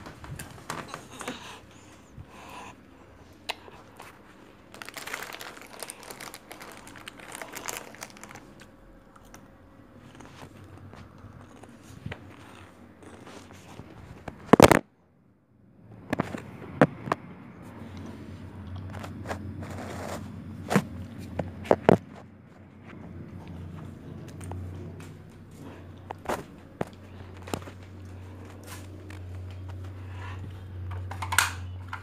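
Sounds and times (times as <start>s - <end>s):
rustling and crinkling: 0.0s - 2.2s, 3.6s - 14.8s, 16.0s - 32.0s.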